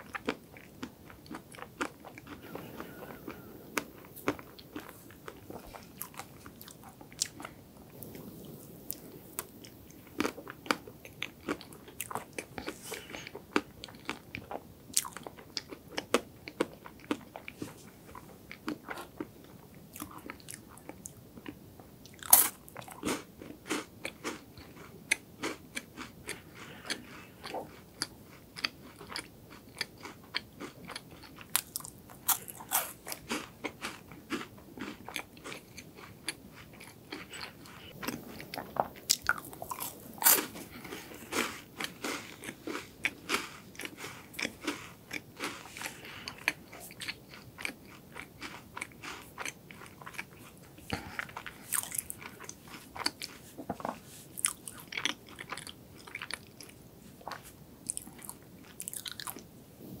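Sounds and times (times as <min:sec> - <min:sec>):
crunching and chewing wafers: 0:00.0 - 0:59.5.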